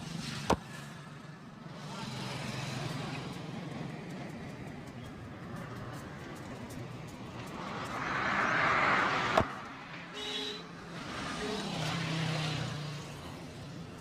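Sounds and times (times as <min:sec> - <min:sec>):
vehicle passing: 0:00.8 - 0:14.0.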